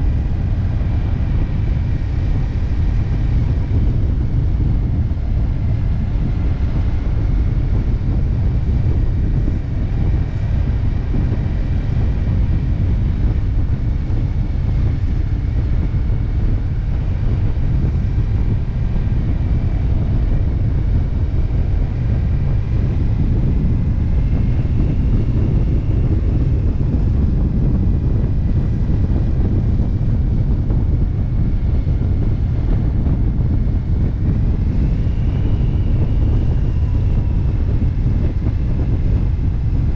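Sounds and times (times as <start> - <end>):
faint drifting whine: 0.0 - 39.9
motorcycle engine running: 0.0 - 39.9
wind rushing over microphone: 0.0 - 39.9.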